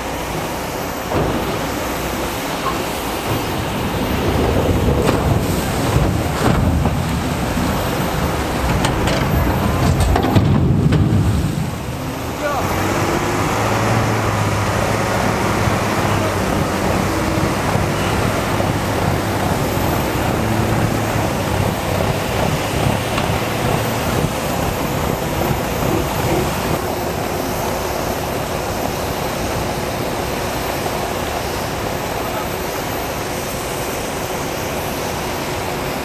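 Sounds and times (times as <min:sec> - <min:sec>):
boat diesel engines droning: 0:00.0 - 0:36.0.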